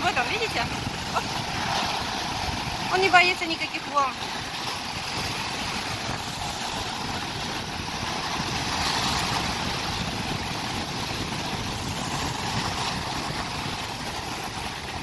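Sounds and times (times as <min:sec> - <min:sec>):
sea waves breaking against rocks: 0:00.0 - 0:15.0
wind buffeting microphone: 0:00.0 - 0:15.0.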